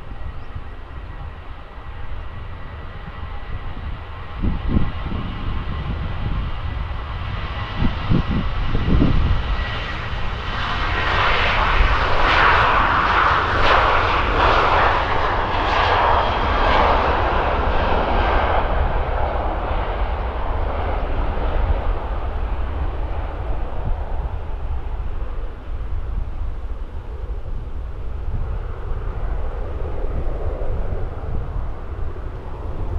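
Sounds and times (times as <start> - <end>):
jet engines at takeoff power: 0.0 - 32.9.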